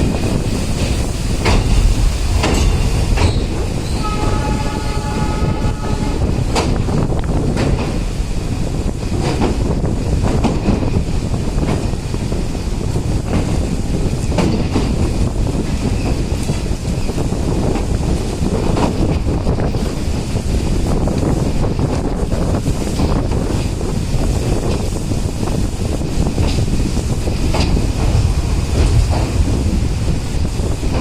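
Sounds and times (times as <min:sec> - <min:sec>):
train running on rails: 0:00.0 - 0:31.0
train wheels clanking: 0:00.0 - 0:31.0
wind buffeting microphone: 0:00.0 - 0:31.0.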